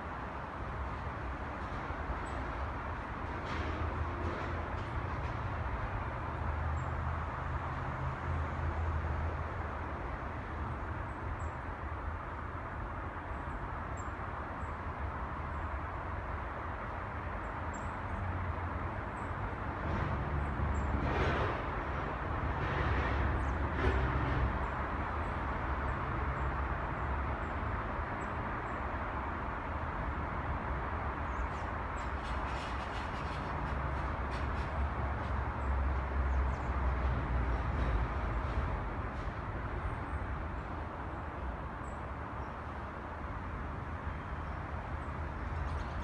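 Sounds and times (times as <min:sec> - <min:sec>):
distant city traffic rumble: 0:00.0 - 0:46.0.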